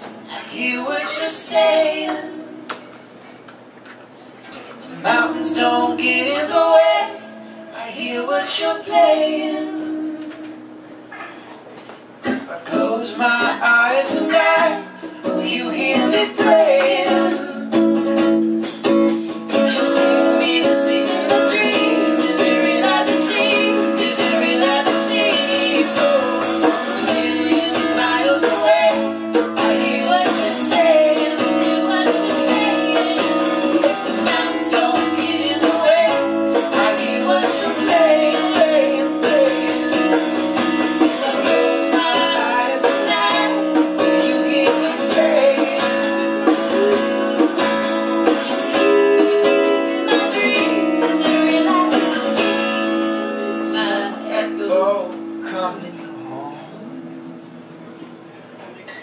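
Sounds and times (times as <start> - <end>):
woman and man singing: 0.0 - 2.8, 4.8 - 10.6, 12.3 - 18.0, 19.4 - 56.5
strummed acoustic guitar: 4.4 - 11.6, 12.2 - 57.4.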